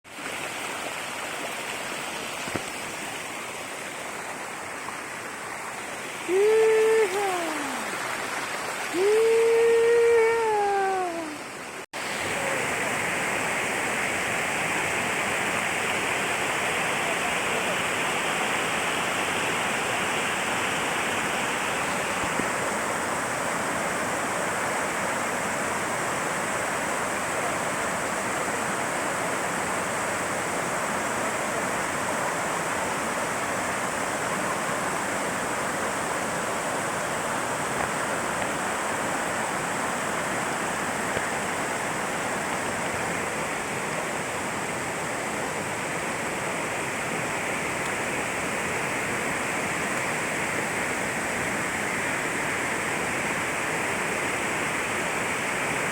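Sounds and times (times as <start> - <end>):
waterfall roaring: 0.3 - 55.9.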